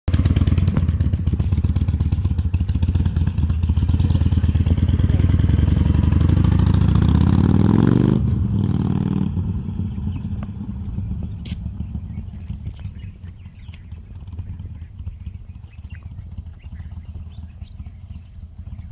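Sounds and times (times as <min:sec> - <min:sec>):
motorcycle engine running unevenly: 0:00.1 - 0:18.9.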